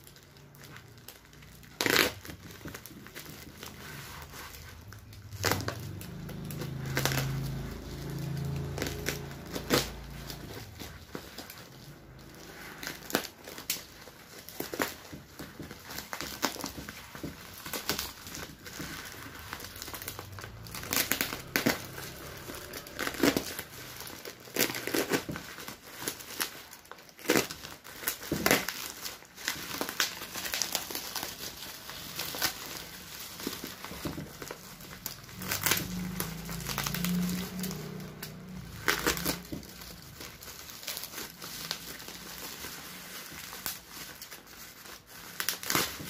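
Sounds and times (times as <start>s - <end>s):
plastic wrapping crinkling: 0.0s - 46.0s.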